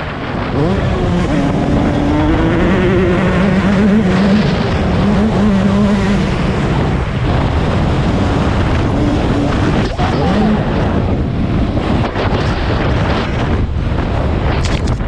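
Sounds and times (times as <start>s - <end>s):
motocross engine revving: 0.1s - 12.2s.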